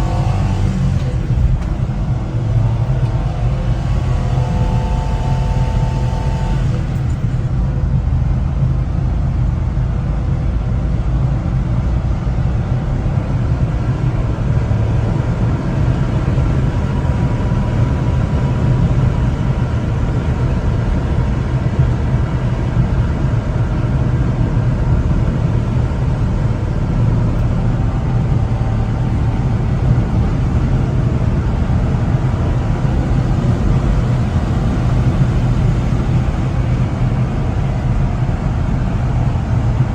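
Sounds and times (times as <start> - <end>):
road rumble: 0.0 - 39.9
truck engine droning: 0.0 - 39.9.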